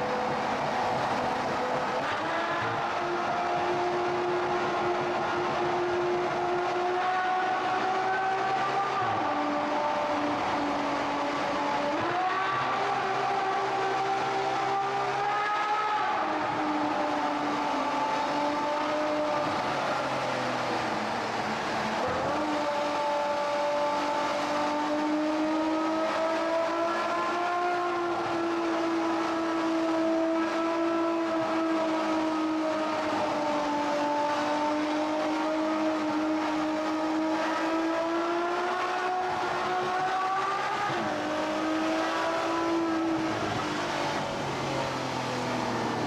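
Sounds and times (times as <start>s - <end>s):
car engine cruising: 0.0s - 46.0s.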